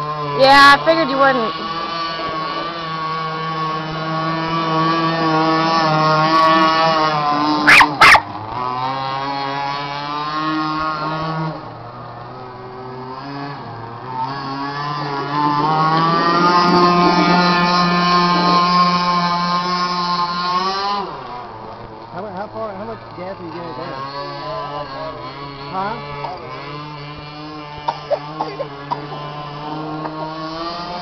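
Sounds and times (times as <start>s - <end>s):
model boat motor buzzing: 0.0s - 31.0s.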